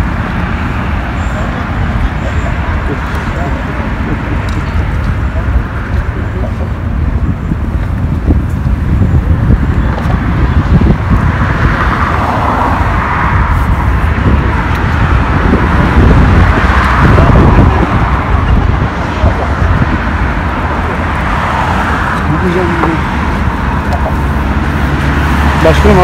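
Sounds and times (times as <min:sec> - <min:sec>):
road traffic hiss: 0:00.0 - 0:26.0
wind rumble on microphone: 0:00.0 - 0:26.0.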